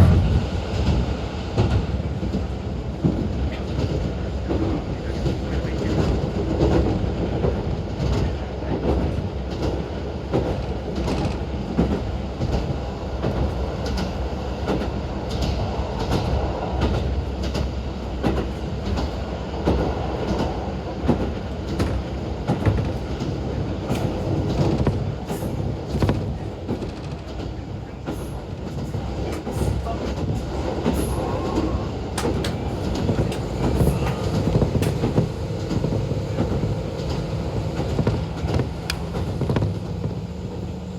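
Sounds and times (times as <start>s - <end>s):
train diesel engine running: 0.0s - 40.9s.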